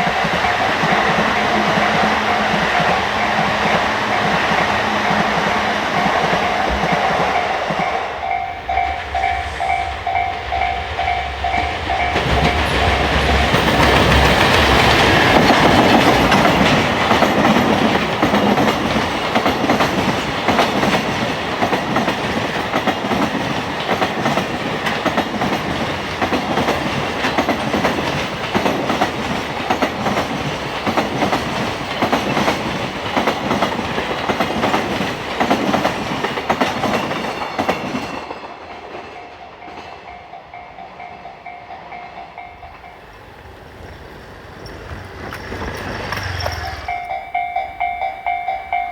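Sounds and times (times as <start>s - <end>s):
train wheels clattering over rails: 0.0s - 8.1s, 9.0s - 43.0s, 43.8s - 47.2s
crossing warning bell ringing: 0.0s - 43.2s, 45.8s - 48.9s.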